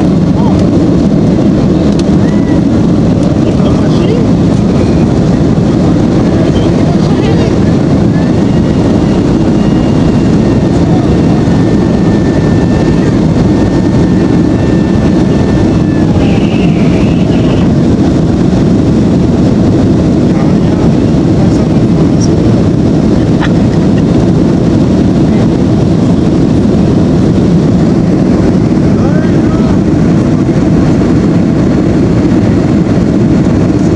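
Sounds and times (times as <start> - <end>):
aircraft engine roar in cabin: 0.0 - 33.9.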